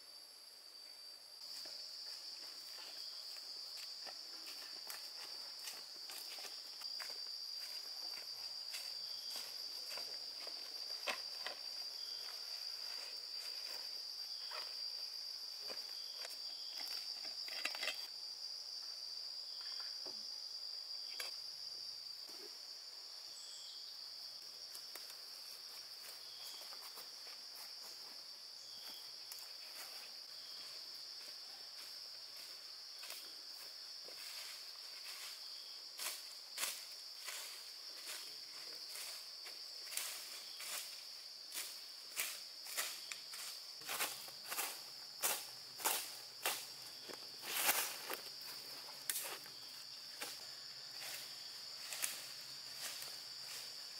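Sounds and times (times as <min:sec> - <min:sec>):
high-pitched insect drone: 0:00.8 - 0:53.9.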